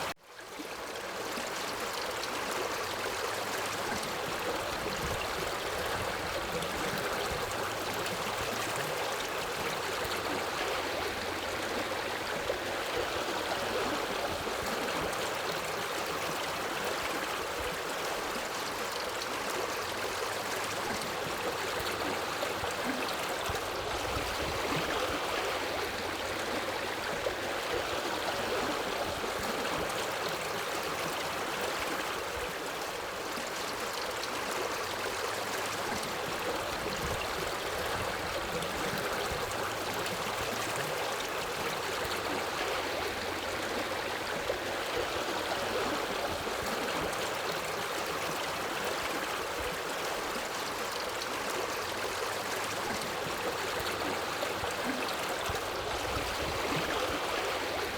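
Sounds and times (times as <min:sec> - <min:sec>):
river flowing over rocks: 0:00.8 - 0:57.9.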